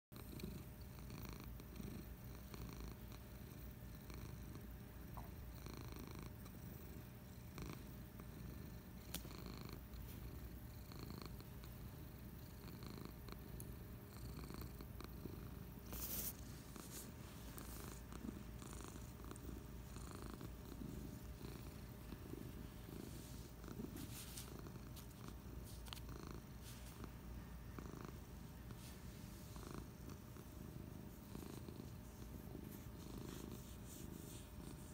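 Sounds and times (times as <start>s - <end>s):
cat purring: 0.2s - 34.9s.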